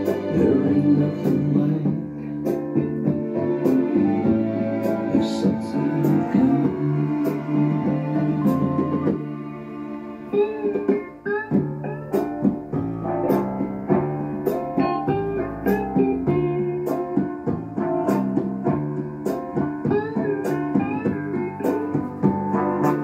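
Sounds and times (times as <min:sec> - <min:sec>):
instrumental music with pitched notes: 0:00.0 - 0:23.0.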